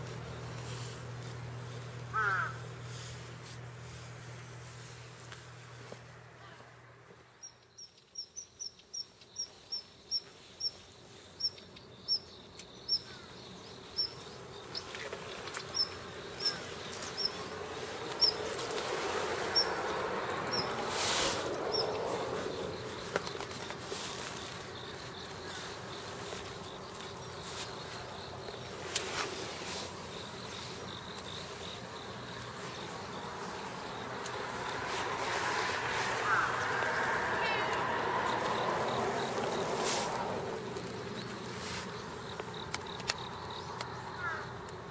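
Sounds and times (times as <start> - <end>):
brushing rustle: 0.0 - 7.4, 9.1 - 11.4, 13.1 - 43.0.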